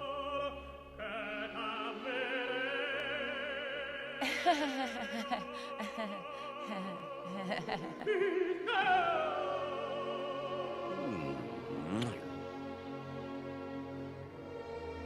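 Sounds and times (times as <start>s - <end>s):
operatic singing: 0.0s - 13.3s.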